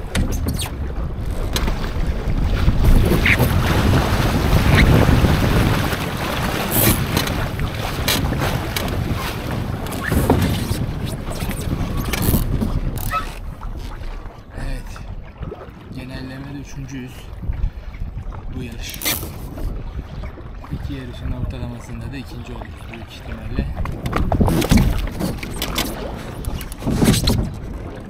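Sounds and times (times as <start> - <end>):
water splashes: 0.0 - 28.0
water washing along hull: 0.0 - 28.0
wind buffeting microphone: 0.0 - 28.0.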